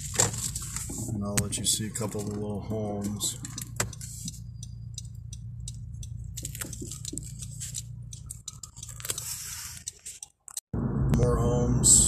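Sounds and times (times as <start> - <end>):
car driving rumble inside cabin: 0.0 - 10.2, 10.8 - 12.0.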